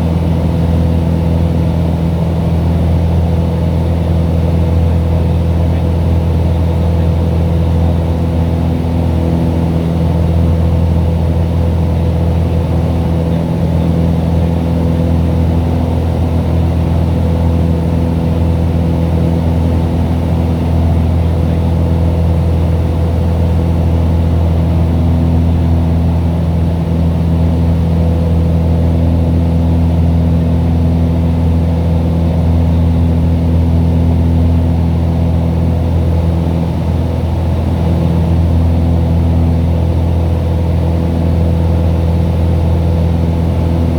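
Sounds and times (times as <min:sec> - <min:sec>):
propeller plane engine droning: 0:00.0 - 0:43.9.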